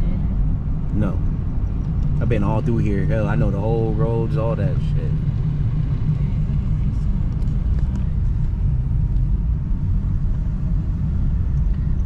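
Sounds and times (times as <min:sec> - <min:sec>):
car engine low rumble: 0:00.0 - 0:12.0
road noise: 0:00.0 - 0:12.0.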